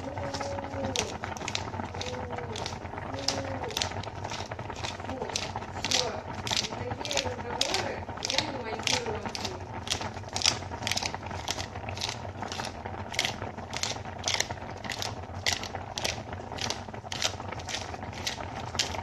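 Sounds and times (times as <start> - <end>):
salt grinder crunching: 0.0 - 19.0.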